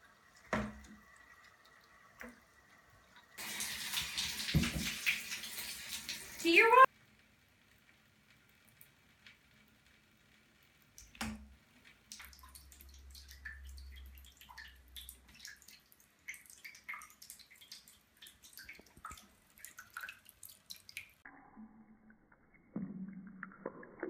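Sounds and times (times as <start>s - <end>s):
water dripping and splashing: 0.0s - 24.0s.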